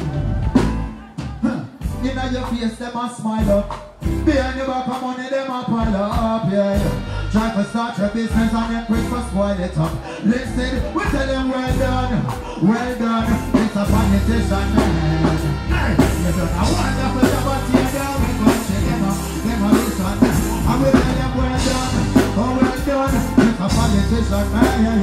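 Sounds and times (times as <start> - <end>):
reggae band playing: 0.0 - 25.0
man singing into microphone: 0.8 - 25.0.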